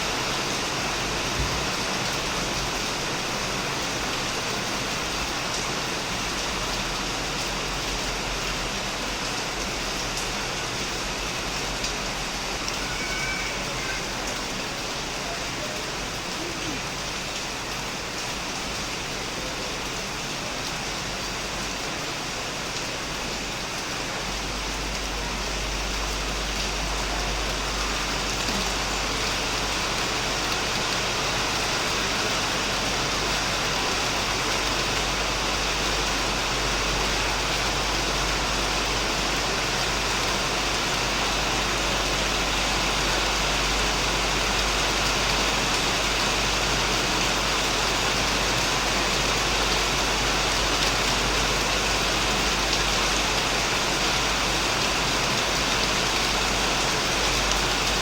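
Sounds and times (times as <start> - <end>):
heavy rain on a shed roof: 0.0 - 58.0.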